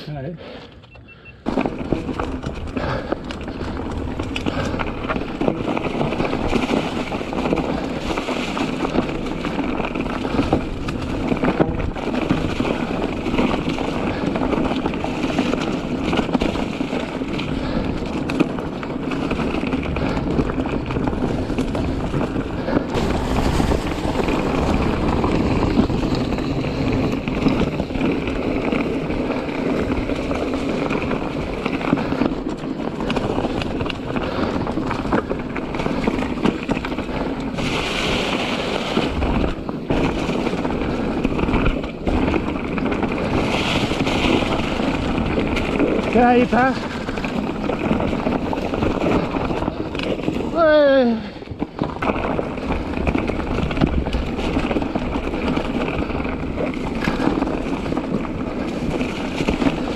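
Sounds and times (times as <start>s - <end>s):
bike rattling: 0.0s - 59.9s
tyres rolling over rock: 1.4s - 59.9s
wind on microphone: 1.5s - 59.9s.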